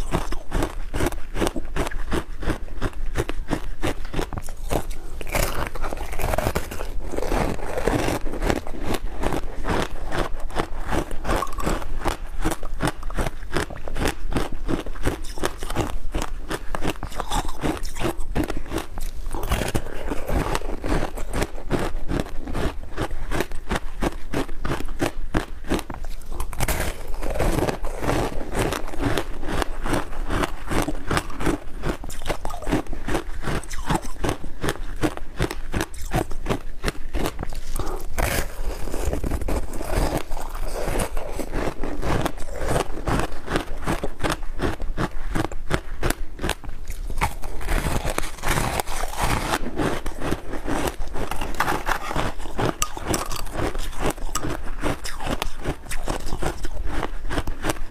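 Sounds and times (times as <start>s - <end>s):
ice being chewed crunching: 0.0s - 57.9s.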